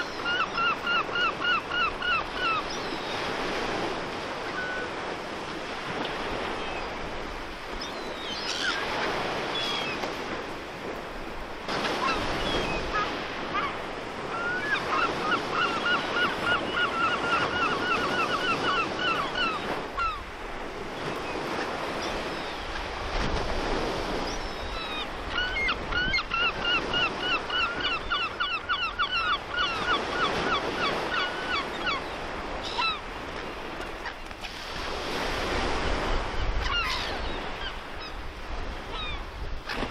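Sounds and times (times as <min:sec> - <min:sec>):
sea surf: 0:00.0 - 0:39.9.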